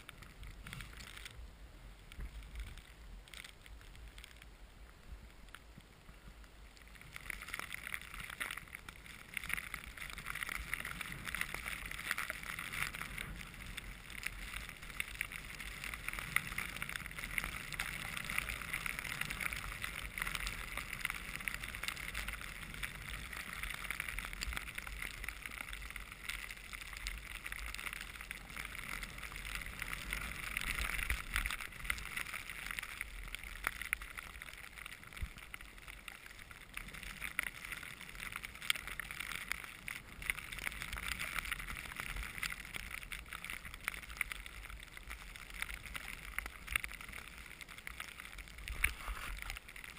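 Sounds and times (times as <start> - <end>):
skis sliding through snow: 0.0 - 49.9
wind rumble on microphone: 0.0 - 49.9.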